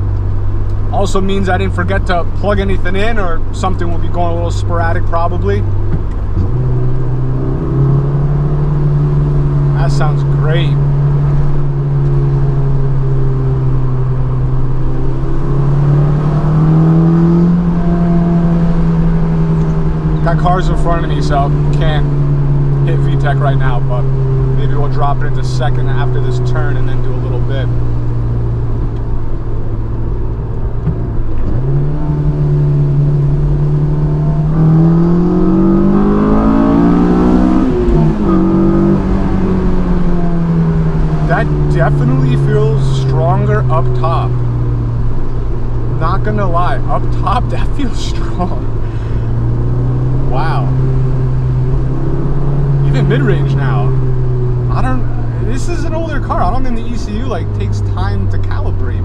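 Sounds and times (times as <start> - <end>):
car engine drone from cabin: 0.0 - 59.0.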